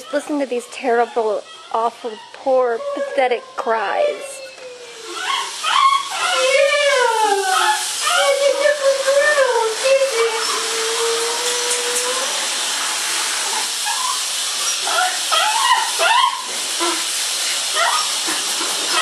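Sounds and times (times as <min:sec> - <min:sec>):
dog whining and crying: 0:00.0 - 0:12.7, 0:13.4 - 0:17.1, 0:17.7 - 0:19.0
running shower water hiss: 0:00.0 - 0:19.0.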